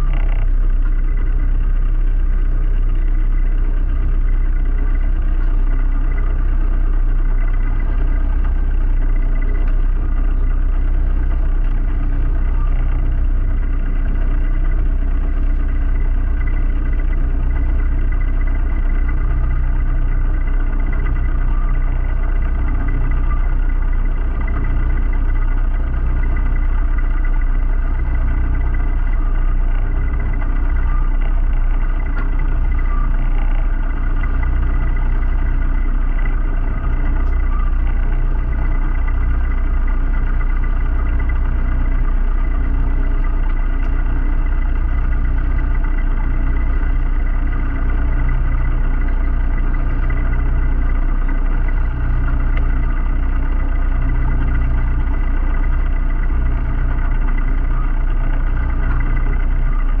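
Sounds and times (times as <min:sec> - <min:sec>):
boat diesel engine running: 0:00.0 - 1:00.0.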